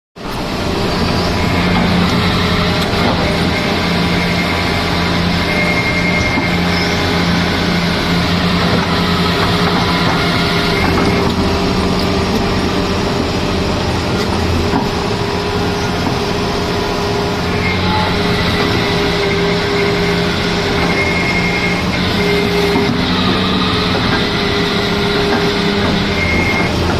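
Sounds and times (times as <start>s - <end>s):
excavator diesel engine running: 0.2s - 26.9s.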